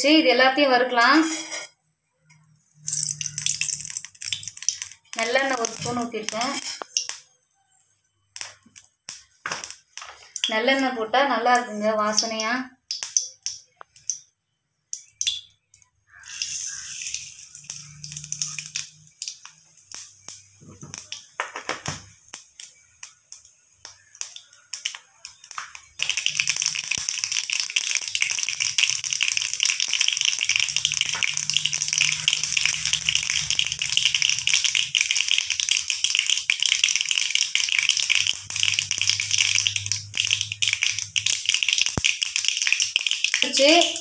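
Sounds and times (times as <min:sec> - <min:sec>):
seeds frying in oil: 0:01.1 - 0:14.3, 0:14.9 - 0:44.0.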